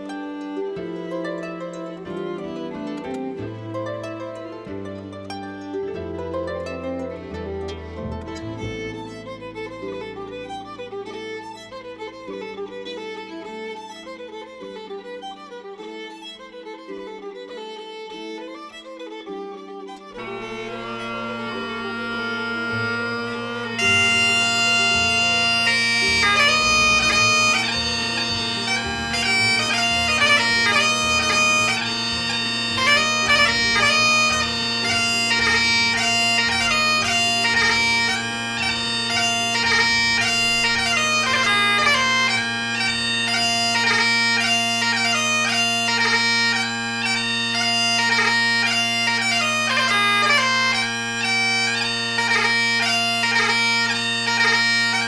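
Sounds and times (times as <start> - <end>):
bagpipe music: 0.0 - 55.0.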